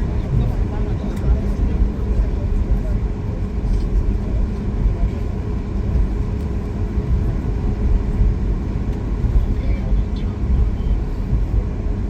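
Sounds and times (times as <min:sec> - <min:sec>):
airplane cabin engine rumble: 0:00.0 - 0:12.0
faint hum: 0:00.0 - 0:12.0.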